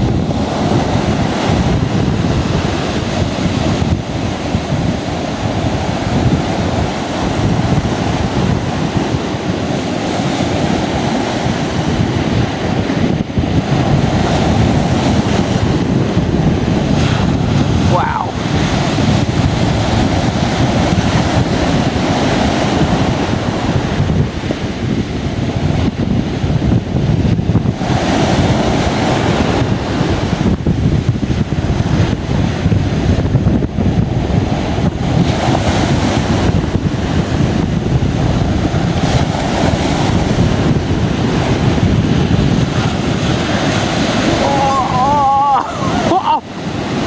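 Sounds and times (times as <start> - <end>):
waves breaking on a beach: 0.0 - 47.0
wind buffeting the microphone: 0.0 - 47.0.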